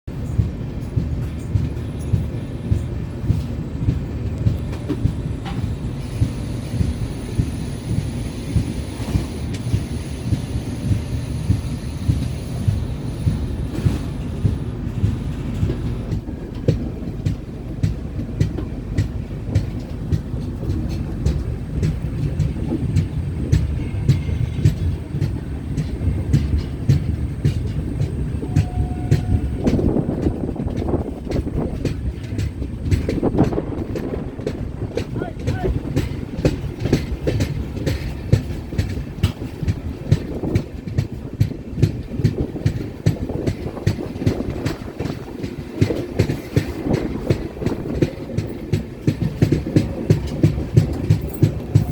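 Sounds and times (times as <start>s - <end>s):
train rumble: 0.0s - 51.9s
train wheels clicking over rail joints: 0.1s - 51.9s.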